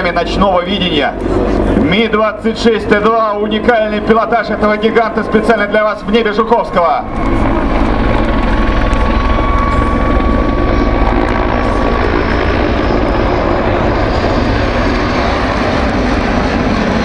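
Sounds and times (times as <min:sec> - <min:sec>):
helicopter flying overhead: 0:00.0 - 0:17.0
thin engine whine: 0:01.1 - 0:17.0.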